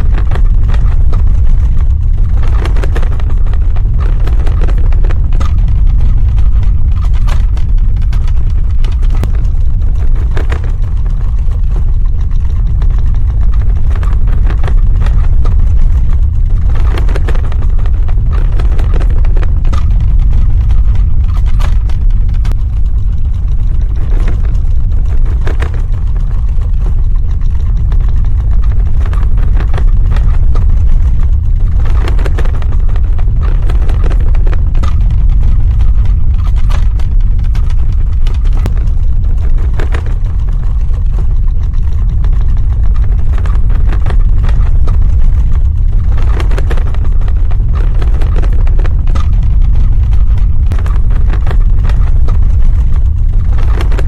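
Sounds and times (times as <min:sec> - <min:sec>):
cracks and knocks: 0:00.0 - 0:54.0
deep earthquake rumble: 0:00.0 - 0:54.0.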